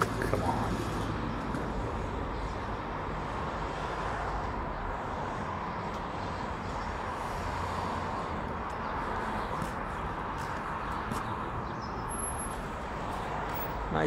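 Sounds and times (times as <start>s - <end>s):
traffic noise: 0.0s - 14.0s.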